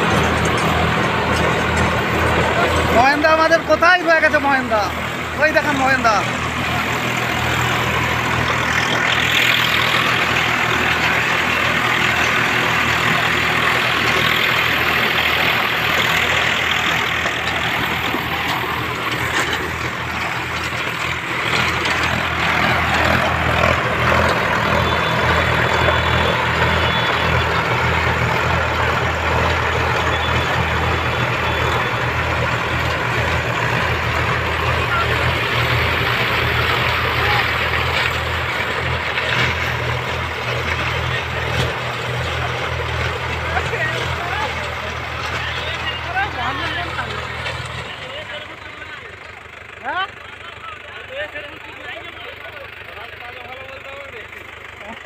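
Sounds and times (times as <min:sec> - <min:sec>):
tiller blades churning soil: 0:00.0 - 0:55.0
tractor engines running: 0:00.0 - 0:55.0.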